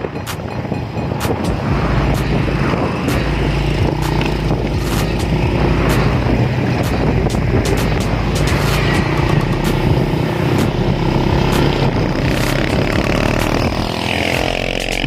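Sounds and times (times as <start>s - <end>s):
road and wind noise: 0.0s - 15.0s
vehicle engine drone: 0.0s - 15.0s.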